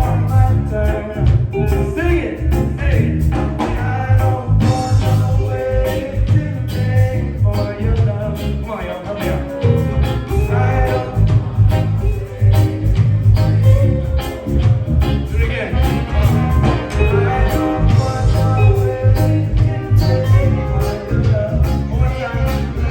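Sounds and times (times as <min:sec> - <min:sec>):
reggae band playing: 0:00.0 - 0:22.9.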